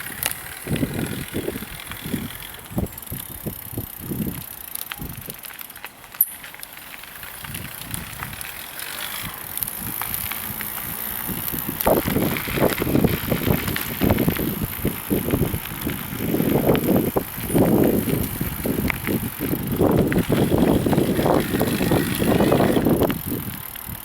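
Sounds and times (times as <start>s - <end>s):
bicycle road rumble and rattle: 0.0s - 24.0s.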